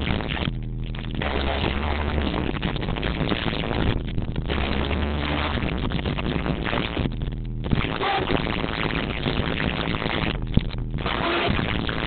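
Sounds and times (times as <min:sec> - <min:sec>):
distorted live concert music: 0:00.0 - 0:12.0.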